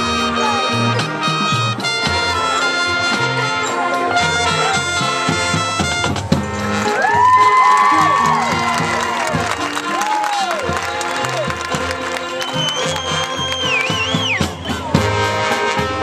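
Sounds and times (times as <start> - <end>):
marching band brass playing: 0.0 - 16.0.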